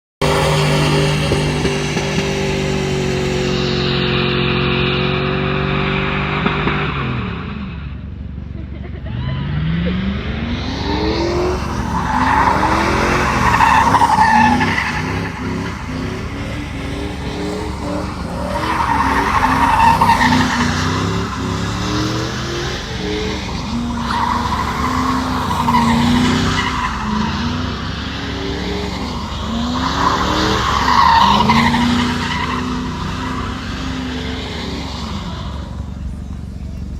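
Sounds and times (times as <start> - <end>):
truck engine revving: 0.2 - 7.5, 8.6 - 36.9.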